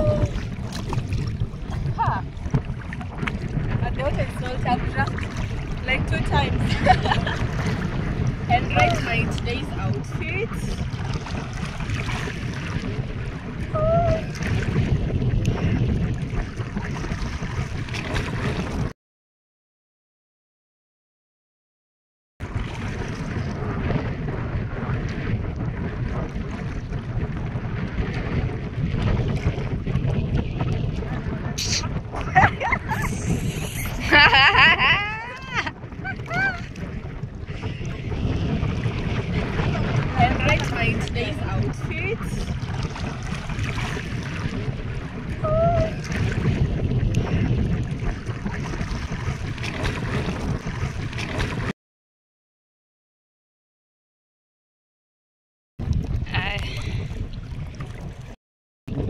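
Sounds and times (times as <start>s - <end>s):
moving water: 0.0s - 18.9s, 22.4s - 51.7s, 55.8s - 59.0s
wind buffeting microphone: 0.0s - 18.9s, 22.4s - 51.7s, 55.8s - 59.0s.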